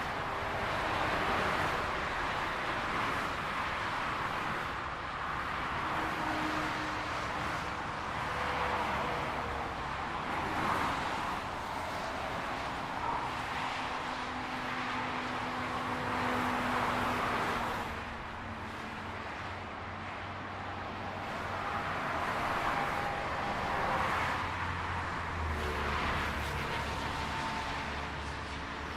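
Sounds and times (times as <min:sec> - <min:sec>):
highway traffic: 0:00.0 - 0:28.9.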